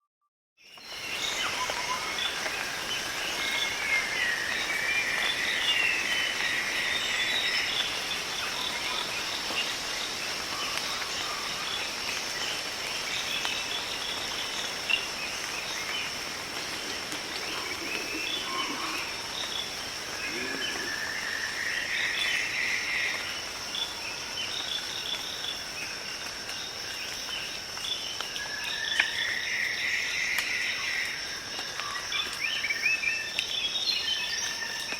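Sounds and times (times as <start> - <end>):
buzzing insect chorus: 0.8 - 33.9.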